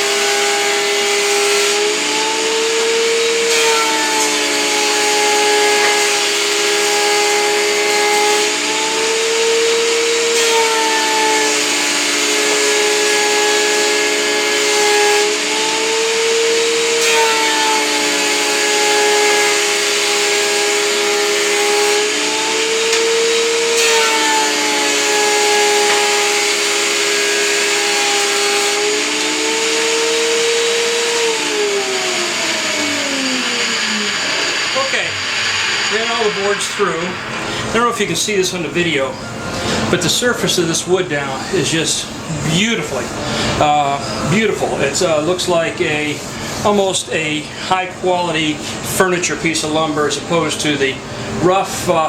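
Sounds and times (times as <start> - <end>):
benchtop planer running: 0.0 - 47.6
shop vacuum running: 0.0 - 52.0.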